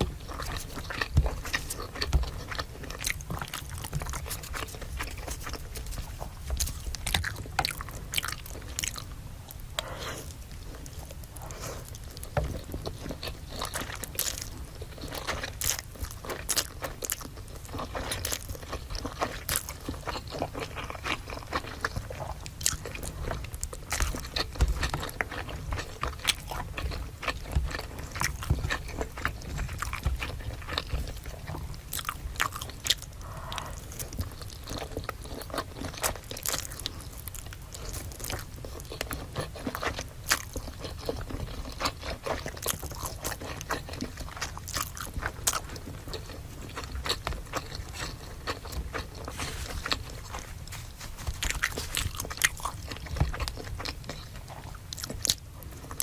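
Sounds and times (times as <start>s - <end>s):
crunchy chewing of fried food: 0.0s - 56.0s.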